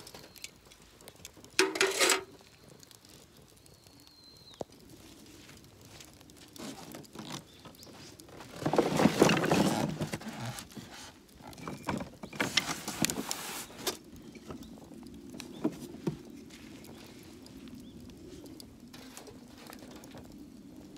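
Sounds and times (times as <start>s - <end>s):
rustling and scratching: 0.0s - 3.5s, 4.8s - 20.4s
firewood clicking and knocking: 0.0s - 20.9s
wood fire crackling and popping: 0.0s - 20.9s.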